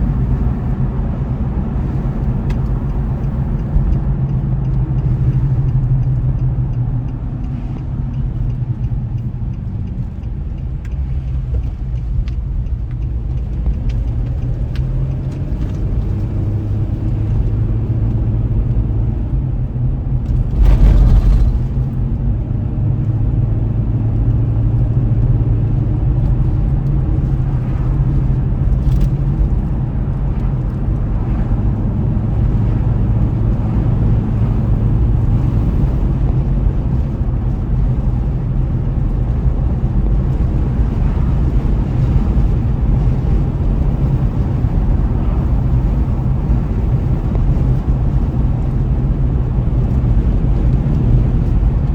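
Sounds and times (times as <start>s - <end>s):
car engine and tyre noise: 0.0s - 51.9s.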